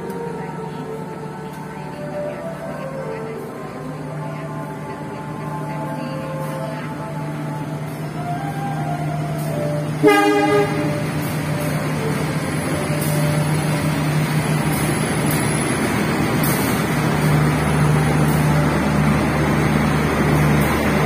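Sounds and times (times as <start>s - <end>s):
carriages rumbling along track: 0.0s - 21.0s
diesel train engine hum: 0.0s - 21.0s.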